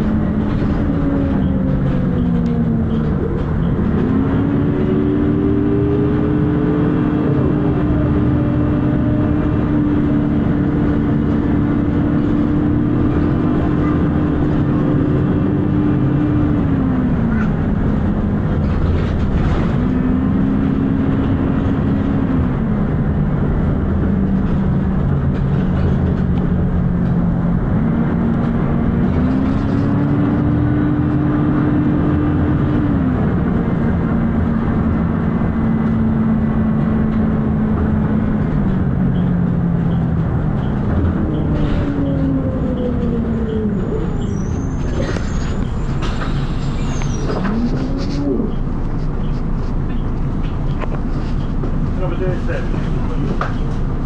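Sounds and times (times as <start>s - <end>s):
bus engine and fan droning: 0.0s - 54.0s.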